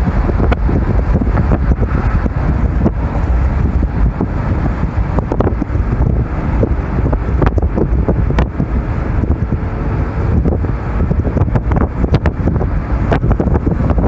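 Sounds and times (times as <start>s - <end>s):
car tyres and engine rumble: 0.0s - 14.0s
wind buffeting microphone: 0.0s - 14.0s.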